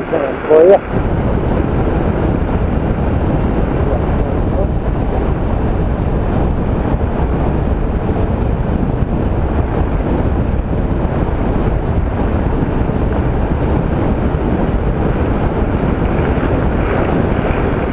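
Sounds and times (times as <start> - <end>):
road noise: 0.0 - 17.9
wind rush on microphone: 0.0 - 17.9.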